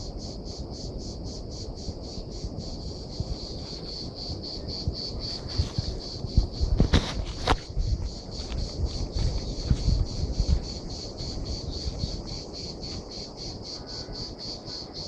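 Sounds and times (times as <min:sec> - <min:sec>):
insects chirping in pulses: 0:00.0 - 0:15.0.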